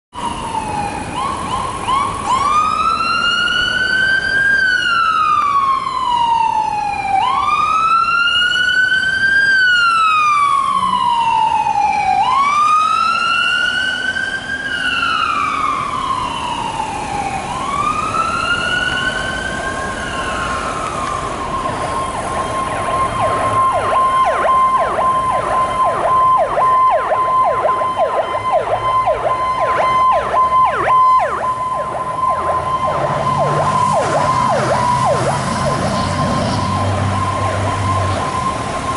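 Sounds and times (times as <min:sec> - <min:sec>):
rapid yelping siren: 0:00.1 - 0:38.9
wail siren: 0:00.1 - 0:38.9.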